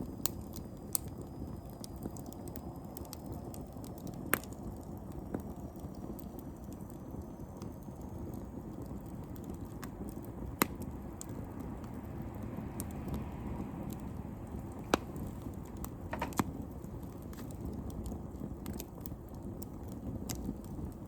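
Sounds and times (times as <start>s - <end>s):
burning wood crackling and popping: 0.0s - 21.0s
campfire low rush: 0.0s - 21.0s.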